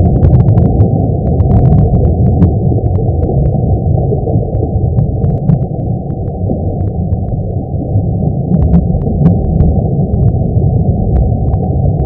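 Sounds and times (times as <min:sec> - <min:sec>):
faint crackling clicks: 0:00.0 - 0:10.5, 0:11.1 - 0:12.0
dense low rumble: 0:00.0 - 0:12.0.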